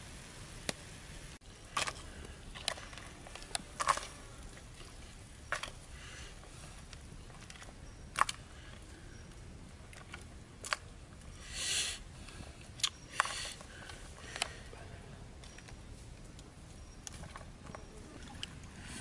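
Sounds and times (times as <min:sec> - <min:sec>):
wood fire crackling: 0:00.0 - 0:18.2.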